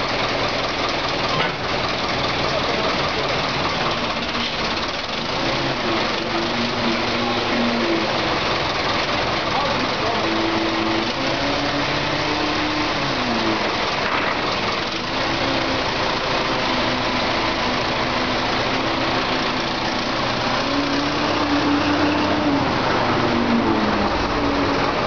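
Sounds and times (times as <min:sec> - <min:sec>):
forklift engine under load: 0:00.0 - 0:25.0.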